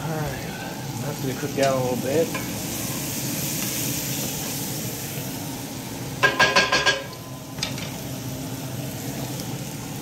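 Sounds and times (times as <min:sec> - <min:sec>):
vegetables sizzling in a skillet: 0:00.0 - 0:10.0.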